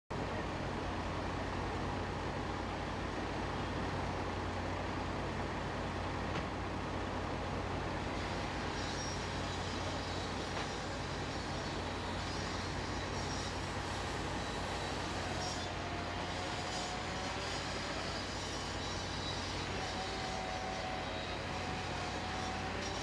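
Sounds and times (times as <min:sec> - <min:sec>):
diesel engines droning: 0:00.1 - 0:23.0.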